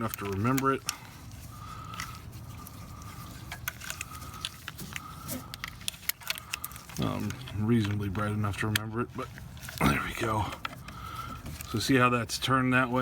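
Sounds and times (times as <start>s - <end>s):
small parts clicking and rattling: 0.0s - 12.1s.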